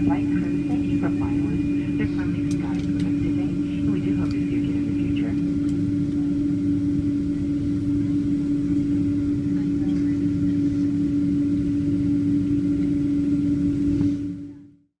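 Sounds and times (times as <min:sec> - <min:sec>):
airliner cabin rumble: 0:00.0 - 0:14.8.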